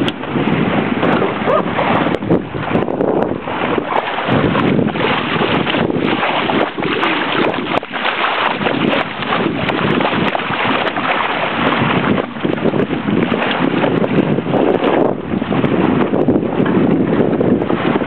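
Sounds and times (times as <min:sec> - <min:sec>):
wind blowing across microphone: 0:00.0 - 0:18.0.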